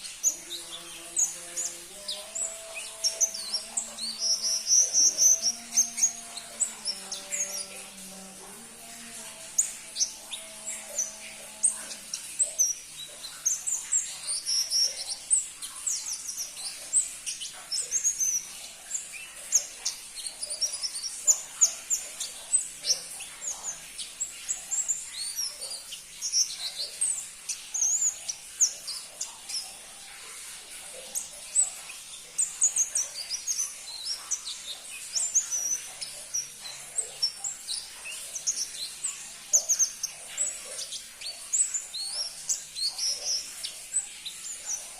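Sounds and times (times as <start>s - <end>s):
small bird chirping: 0.0s - 44.9s.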